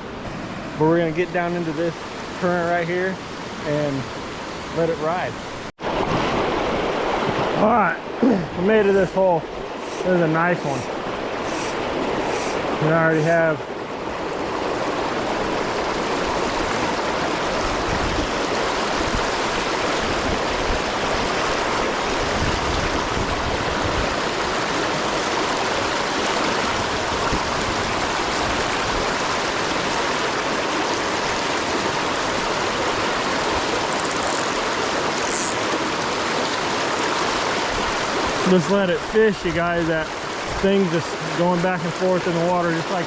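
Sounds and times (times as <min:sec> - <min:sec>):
river rushing over rocks: 0:00.1 - 0:43.0.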